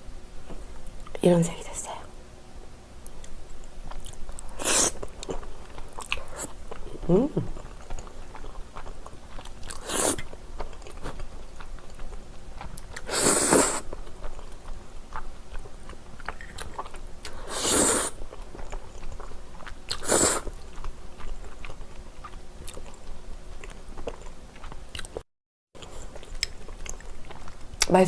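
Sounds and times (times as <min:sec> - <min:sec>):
soft chewing: 0:03.0 - 0:25.2, 0:25.8 - 0:28.0.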